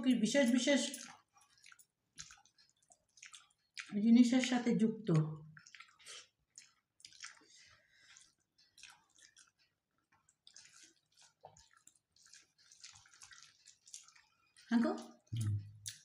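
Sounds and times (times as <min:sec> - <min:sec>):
chewing and mouth sounds: 0:00.5 - 0:04.2, 0:05.1 - 0:16.0.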